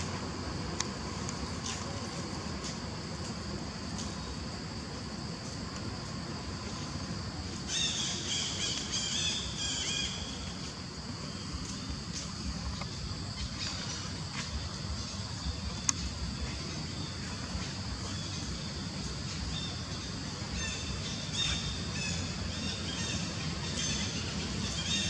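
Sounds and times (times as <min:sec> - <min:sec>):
high insect drone: 0:00.0 - 0:25.0.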